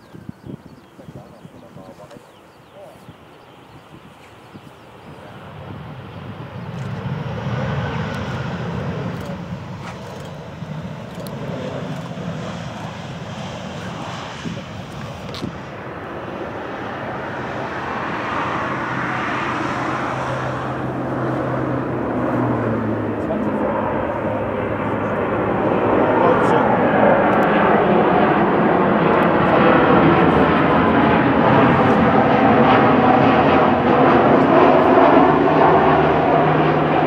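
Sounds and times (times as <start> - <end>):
approaching jet engines humming: 0.0 - 37.0
jet engine rumble: 0.0 - 37.0.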